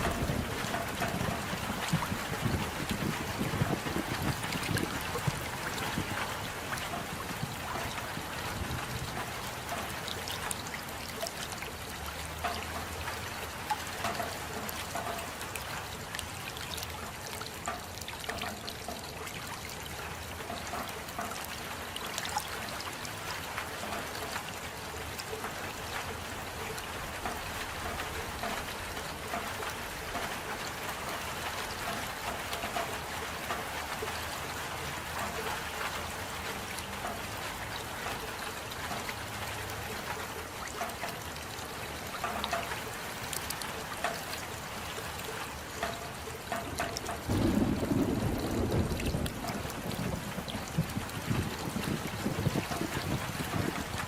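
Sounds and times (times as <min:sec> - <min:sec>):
steady rain: 0:00.0 - 0:54.0
water trickling and dripping: 0:00.0 - 0:54.0.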